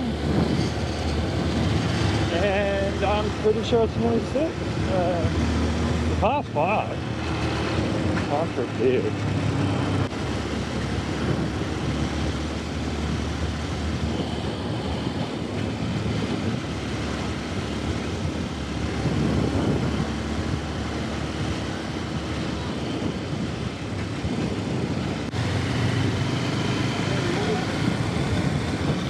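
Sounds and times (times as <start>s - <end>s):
wind and road noise: 0.0s - 29.0s.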